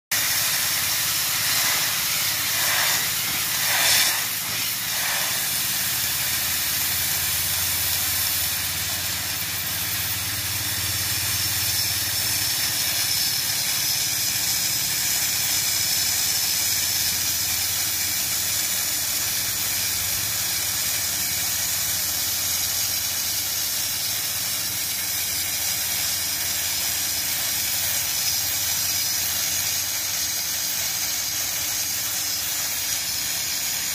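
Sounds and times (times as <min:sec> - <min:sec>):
sandblasting nozzle hissing: 0:00.1 - 0:33.9.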